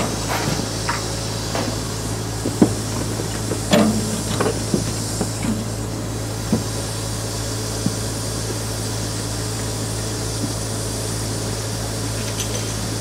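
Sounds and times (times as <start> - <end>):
low machine drone: 0.0 - 13.0
hiss of air: 0.1 - 12.9.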